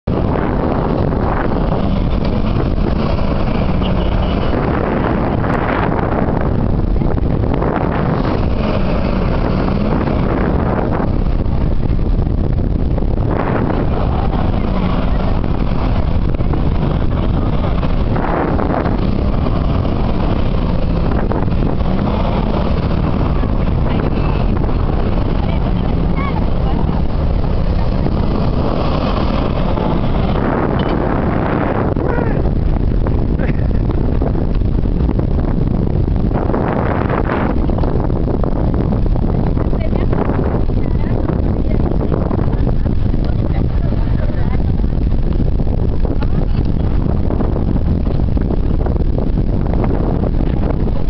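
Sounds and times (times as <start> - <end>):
vehicle engines rumbling: 0.0 - 51.0
wind buffeting microphone: 0.0 - 51.0.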